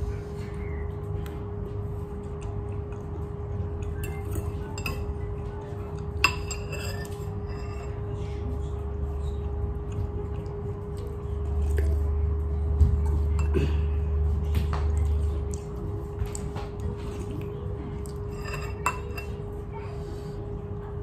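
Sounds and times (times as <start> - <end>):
low steady hum: 0.0 - 21.0
utensils clinking against a bowl: 2.1 - 12.2, 12.9 - 19.7.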